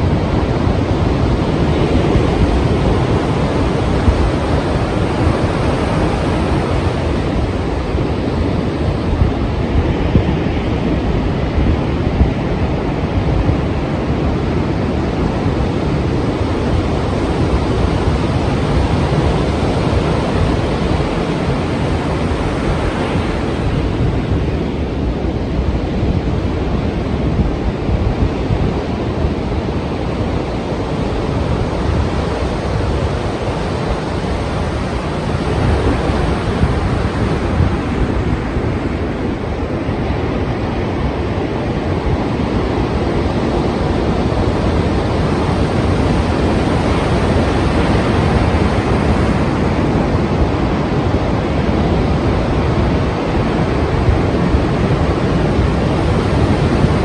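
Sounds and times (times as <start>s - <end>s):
waves breaking: 0.0s - 57.0s
wind: 0.0s - 57.0s.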